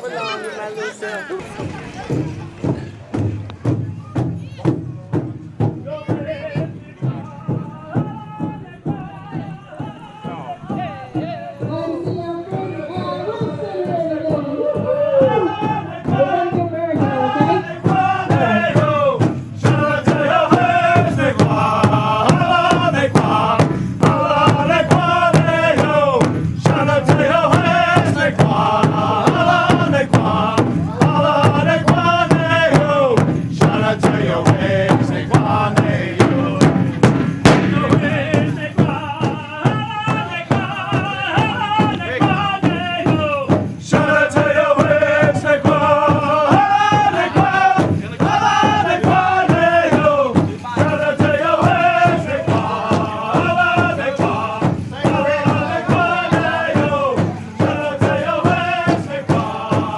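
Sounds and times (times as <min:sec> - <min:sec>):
drum steady beat: 0:00.0 - 0:59.9
singers chanting together: 0:05.2 - 0:59.9.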